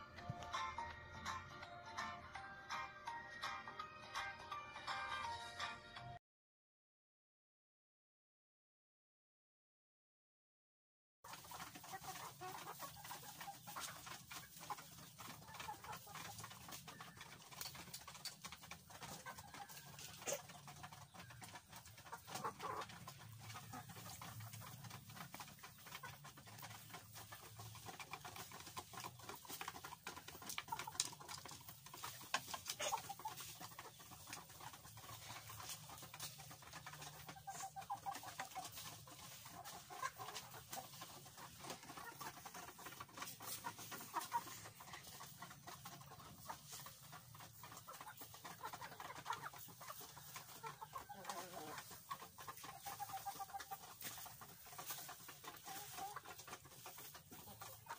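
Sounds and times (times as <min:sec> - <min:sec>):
hens clucking softly: 0:11.3 - 0:57.9.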